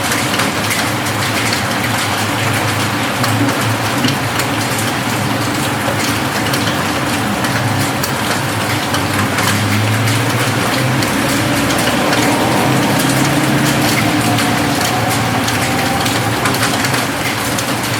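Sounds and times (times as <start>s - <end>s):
rain on a roof: 0.0s - 17.9s.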